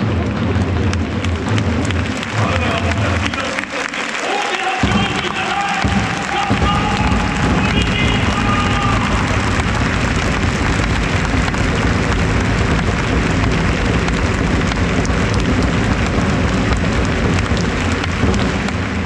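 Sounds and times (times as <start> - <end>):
stadium crowd din: 0.0 - 19.0.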